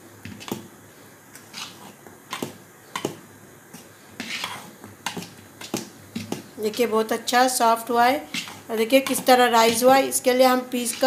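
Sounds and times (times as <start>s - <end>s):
spoon stirring wet batter: 0.2s - 11.0s.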